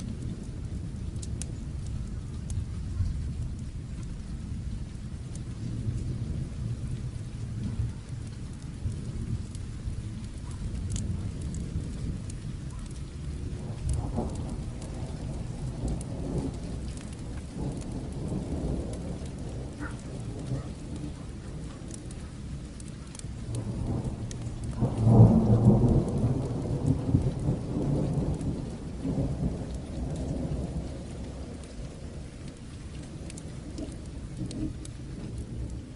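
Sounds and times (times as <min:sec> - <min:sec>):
distant thunder rumble: 0:00.0 - 0:35.9
fire crackling snaps: 0:00.0 - 0:35.9
steady rain: 0:00.0 - 0:35.9.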